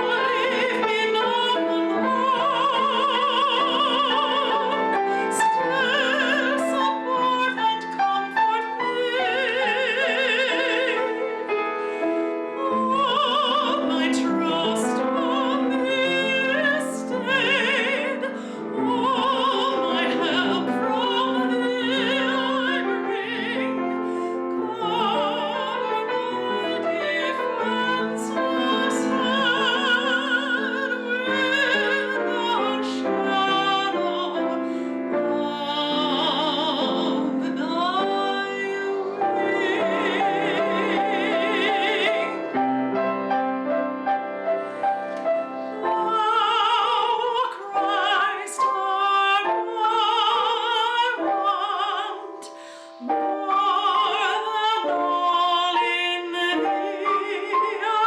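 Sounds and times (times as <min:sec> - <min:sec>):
operatic singing: 0:00.0 - 0:43.4, 0:45.1 - 0:58.0
piano accompaniment: 0:00.0 - 0:58.0.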